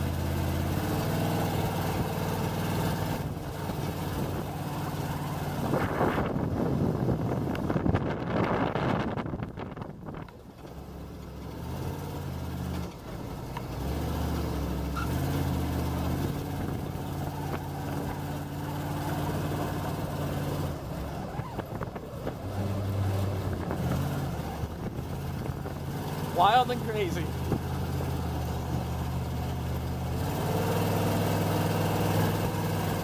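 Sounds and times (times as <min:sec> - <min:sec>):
monster truck engine revving: 0:00.0 - 0:07.9, 0:10.7 - 0:33.0.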